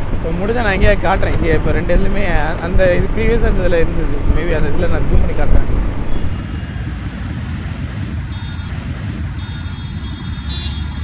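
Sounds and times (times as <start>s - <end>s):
vehicle rumbling along road: 0.0s - 11.0s.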